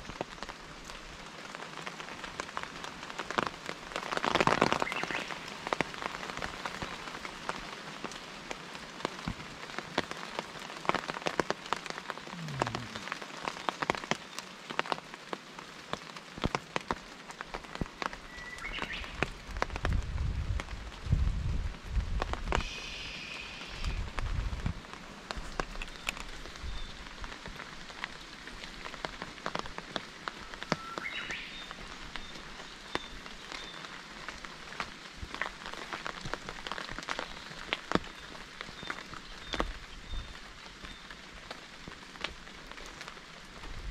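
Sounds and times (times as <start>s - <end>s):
raindrops tapping close by: 0.0s - 43.9s
steady rain falling: 0.0s - 43.9s.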